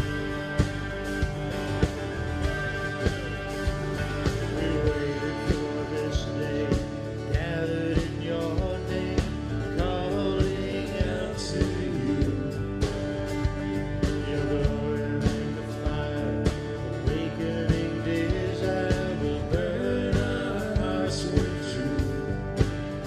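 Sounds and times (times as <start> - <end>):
drum kit beat: 0.0 - 23.0
electric bass: 0.0 - 23.0
strummed acoustic guitars: 0.0 - 23.0
person singing: 1.8 - 23.0.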